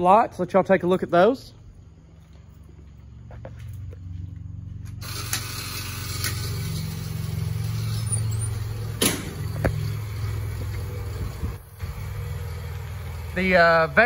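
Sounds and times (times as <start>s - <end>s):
fire engine idling: 1.0s - 14.0s.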